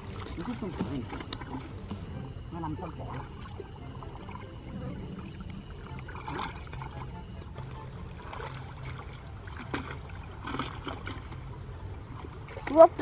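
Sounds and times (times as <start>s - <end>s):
muddy water splashing: 0.0s - 13.0s
steady low rumble: 0.0s - 13.0s.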